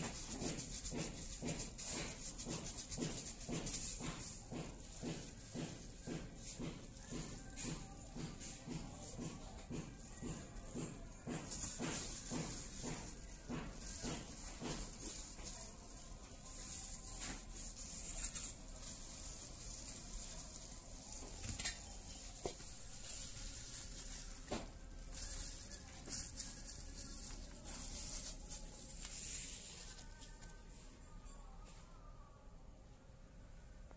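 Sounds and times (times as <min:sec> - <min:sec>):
plastic glove crinkling: 0:00.0 - 0:30.6.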